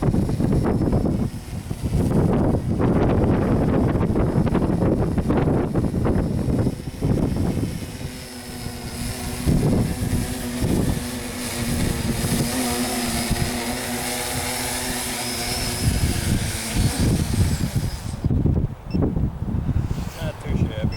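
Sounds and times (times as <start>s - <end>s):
drone motors buzzing: 0.0s - 19.1s
wind buffeting microphone: 0.0s - 20.9s.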